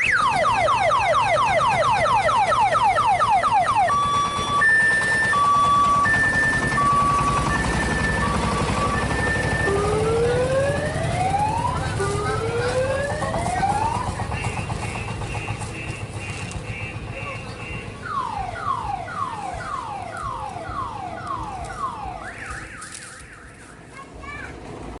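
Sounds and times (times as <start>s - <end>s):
electronic siren cycling tones: 0.0s - 16.4s, 18.0s - 23.7s.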